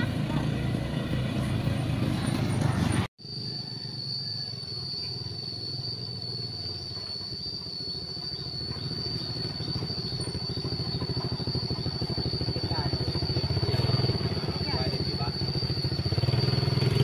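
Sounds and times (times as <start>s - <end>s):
high-pitched whine: 0.0s - 17.0s
motorbikes approaching: 0.0s - 17.0s.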